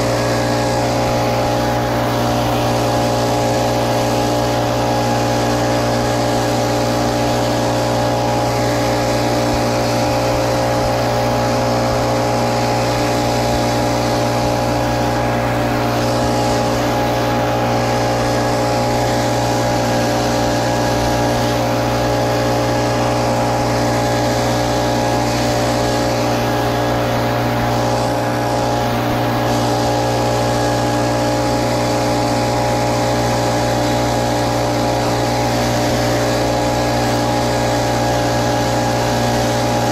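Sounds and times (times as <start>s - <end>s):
blower engine running: 0.0s - 39.9s
rush of air from fan: 0.0s - 39.9s.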